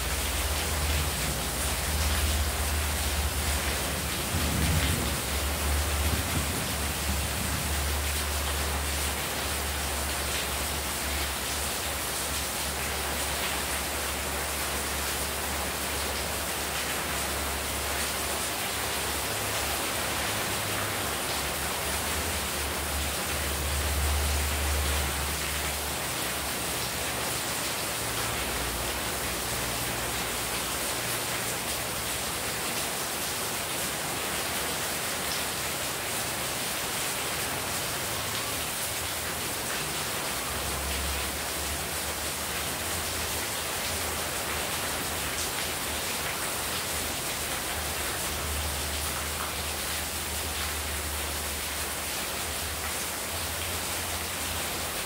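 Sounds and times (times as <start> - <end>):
heavy rain falling: 0.0 - 55.0
rainwater pouring off roof: 0.0 - 55.0.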